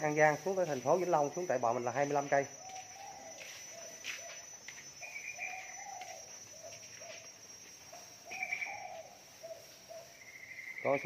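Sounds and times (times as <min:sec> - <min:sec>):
high-pitched insect hum: 0:00.0 - 0:11.0.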